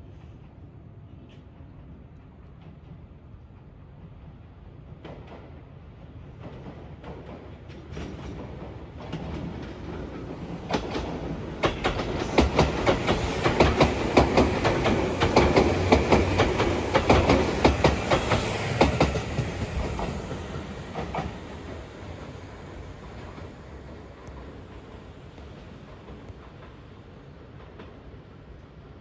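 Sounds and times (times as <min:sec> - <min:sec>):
electric train passing: 0:01.8 - 0:29.0.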